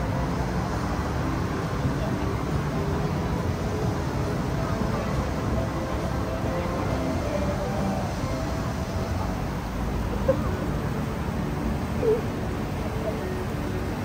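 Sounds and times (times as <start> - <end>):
road traffic: 0.0 - 14.0
voices of passers-by: 0.0 - 14.0.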